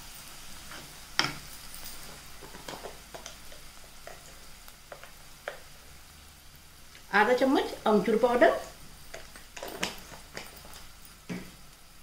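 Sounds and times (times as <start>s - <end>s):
spatula stirring in hot oil: 0.0s - 7.1s, 7.8s - 11.4s
faint sizzle: 0.0s - 12.0s.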